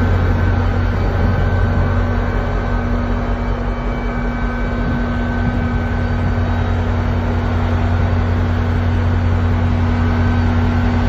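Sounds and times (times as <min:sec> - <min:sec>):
constant whine: 0:00.0 - 0:11.0
generator low drone: 0:00.0 - 0:11.0.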